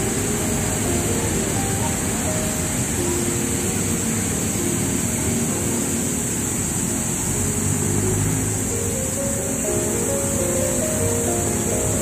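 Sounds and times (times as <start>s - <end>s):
sparse background music: 0.0s - 12.0s
steady rushing noise: 0.0s - 12.0s.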